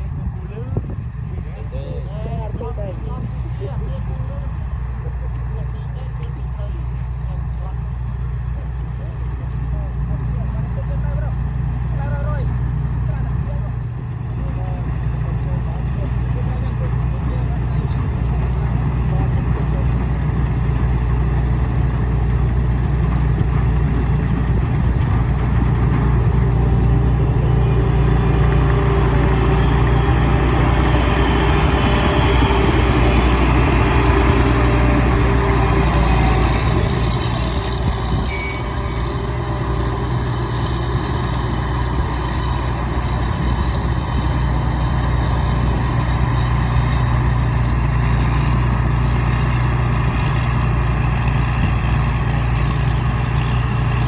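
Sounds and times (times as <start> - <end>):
combine harvester engine humming: 0.0 - 54.0.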